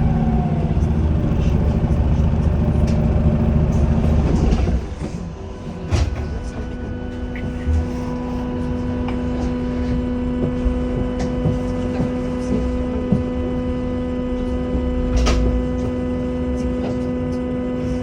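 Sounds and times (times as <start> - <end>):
low diesel engine rumble: 0.0 - 18.0.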